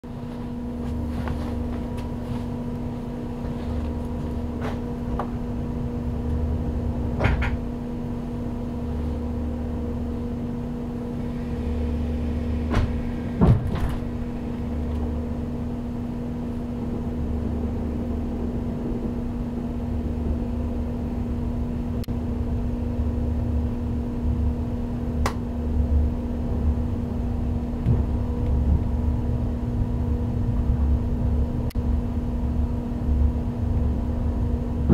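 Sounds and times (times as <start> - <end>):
low uneven train rumble: 0.0 - 34.9
train electrical hum: 0.0 - 34.9.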